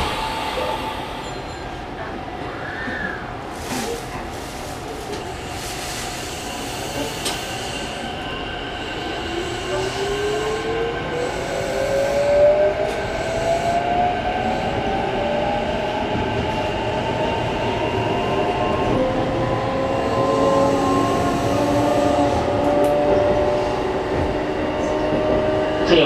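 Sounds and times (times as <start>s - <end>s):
train running and rail noise: 0.0s - 26.0s.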